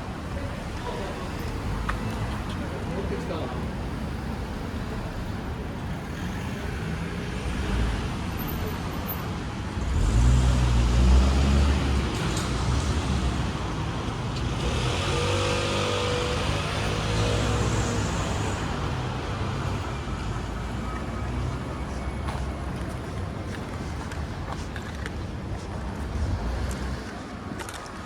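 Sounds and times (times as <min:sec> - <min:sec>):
hum of street noise: 0:00.0 - 0:28.0
vehicles passing: 0:00.0 - 0:28.0.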